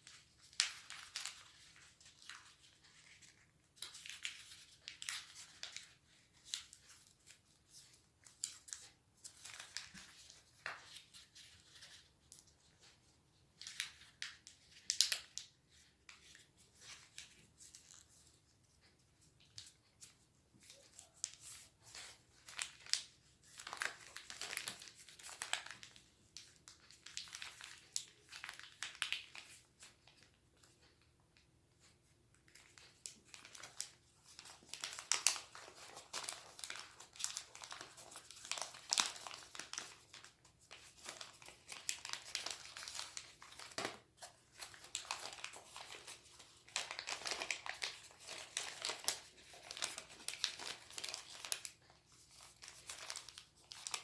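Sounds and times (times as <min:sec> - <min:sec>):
paper being folded and creased: 0:00.0 - 0:31.0, 0:31.8 - 0:54.0.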